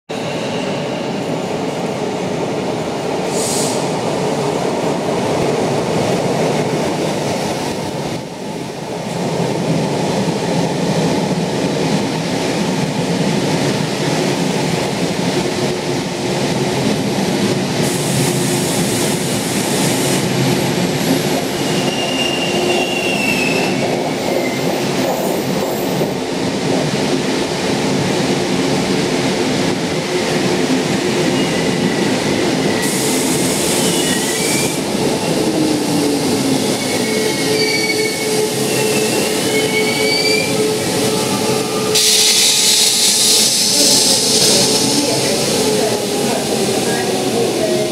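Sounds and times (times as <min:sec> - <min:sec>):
train rumbling in echoing station: 0:00.1 - 0:47.9.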